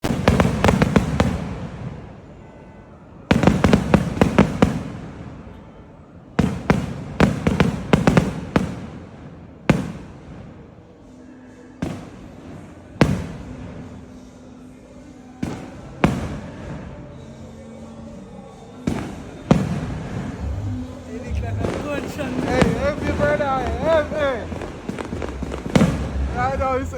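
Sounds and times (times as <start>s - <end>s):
fireworks bangs: 0.0s - 2.4s, 3.3s - 5.7s, 6.4s - 10.9s, 11.8s - 14.0s, 15.4s - 17.4s, 18.8s - 26.9s
fireworks rumble: 0.0s - 14.5s, 15.4s - 26.9s.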